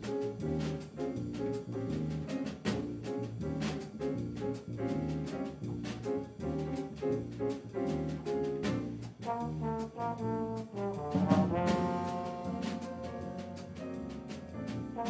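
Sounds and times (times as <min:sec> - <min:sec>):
drums: 0:00.0 - 0:15.0
electric bass: 0:00.0 - 0:15.0
piano: 0:00.0 - 0:15.0
trombone playing jazz melody: 0:00.0 - 0:15.0.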